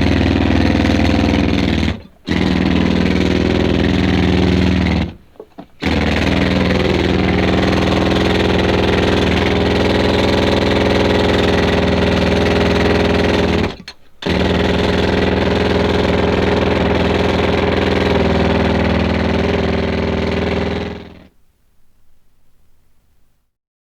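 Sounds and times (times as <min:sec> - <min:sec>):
pneumatic drill hammering: 0:00.0 - 0:21.3.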